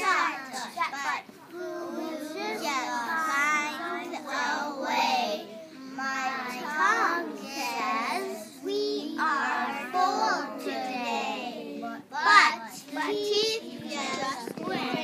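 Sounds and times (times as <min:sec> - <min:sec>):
children chanting in chorus: 0:01.6 - 0:15.0.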